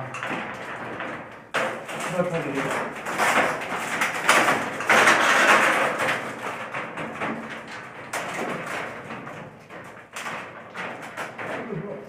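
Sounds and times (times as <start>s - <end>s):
small knocks: 0.0s - 12.0s.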